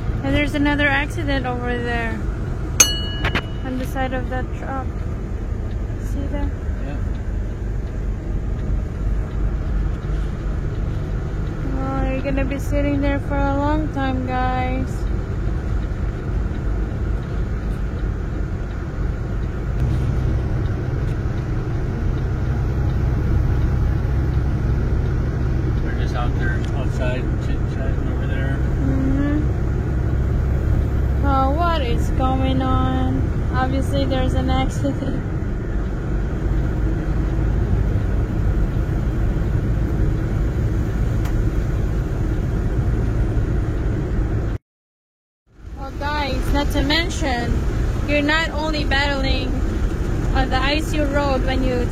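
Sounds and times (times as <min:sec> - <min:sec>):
vehicle road and engine rumble: 0:00.0 - 0:44.6, 0:45.5 - 0:51.9.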